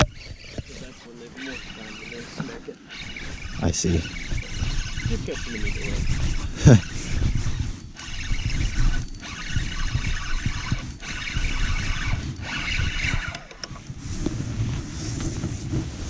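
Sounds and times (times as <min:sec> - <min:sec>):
fishing reel whirring: 0:00.0 - 0:14.0
wind rumbling on microphone: 0:00.0 - 0:16.0.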